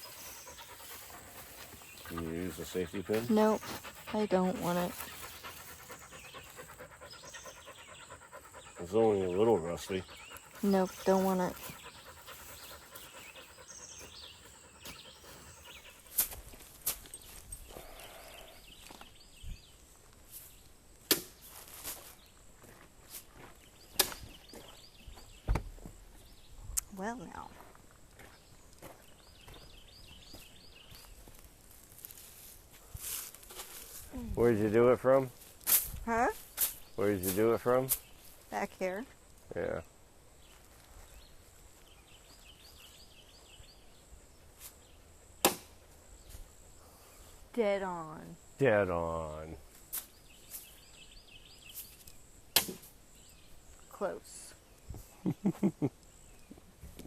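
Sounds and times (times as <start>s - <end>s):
quiet outdoor hiss: 0.0s - 57.0s.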